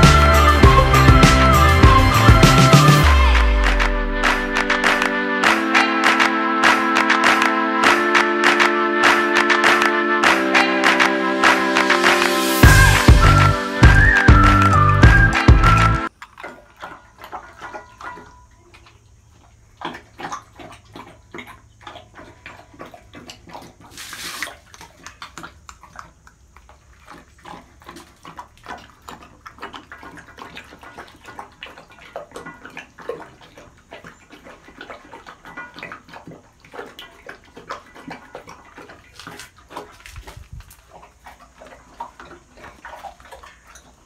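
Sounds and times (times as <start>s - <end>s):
dog lapping from metal bowl: 3.0s - 44.0s.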